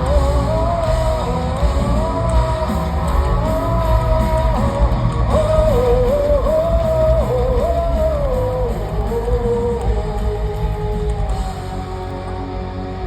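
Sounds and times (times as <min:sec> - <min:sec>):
heavy metal band playing: 0:00.0 - 0:13.0
melodic guitar lead line: 0:00.0 - 0:13.0.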